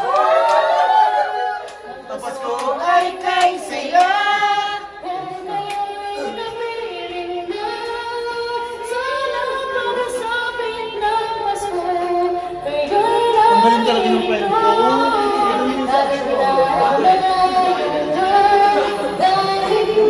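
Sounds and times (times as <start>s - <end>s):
woman singing: 2.7s - 20.0s.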